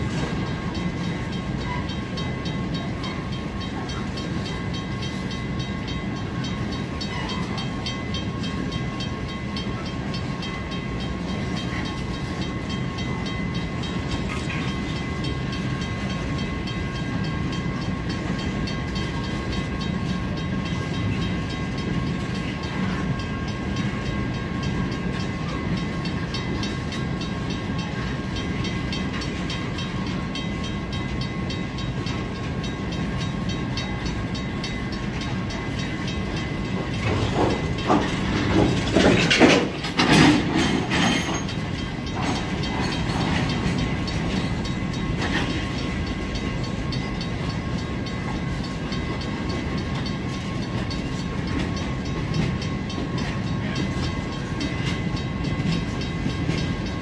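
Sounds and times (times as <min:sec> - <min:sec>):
clanks and squeals of cars: 0:00.0 - 0:32.2, 0:33.2 - 0:57.0
train wheels rumbling on rail: 0:00.0 - 0:57.0.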